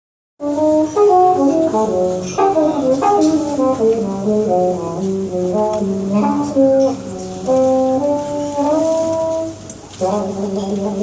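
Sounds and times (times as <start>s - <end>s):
held notes: 0.4s - 11.0s
jazz trumpet melody: 0.4s - 11.0s.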